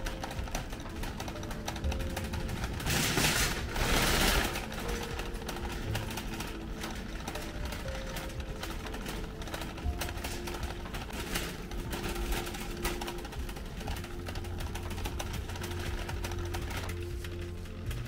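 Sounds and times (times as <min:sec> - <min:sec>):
fast ticking beat: 0:00.0 - 0:18.0
music with held notes: 0:00.0 - 0:18.0.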